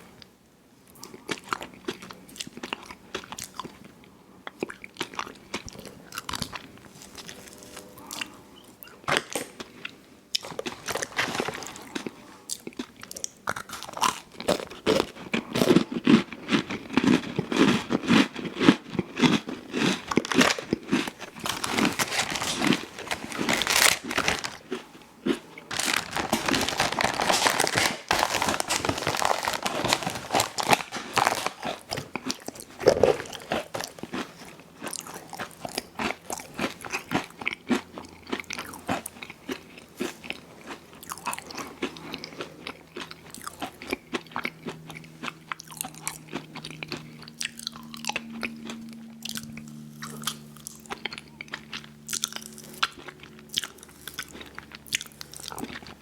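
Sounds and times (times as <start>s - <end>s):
person chewing crunchy food: 0.9s - 56.0s.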